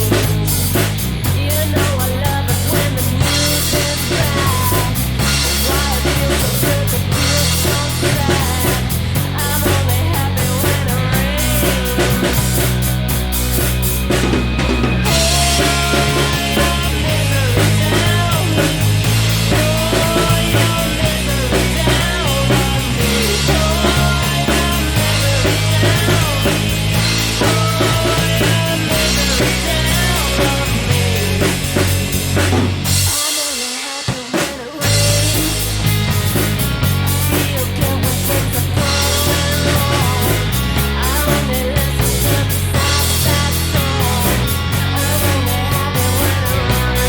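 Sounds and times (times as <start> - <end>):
bass notes: 0.0 - 33.2, 34.8 - 47.0
drum kit: 0.0 - 47.0.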